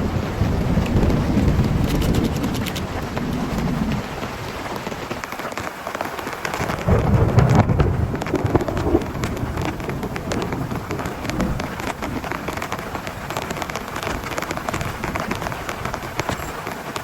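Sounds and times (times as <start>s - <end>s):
low thunder rumbles: 0.0s - 5.1s, 6.6s - 16.4s
heavy rain on a tent: 0.0s - 17.0s.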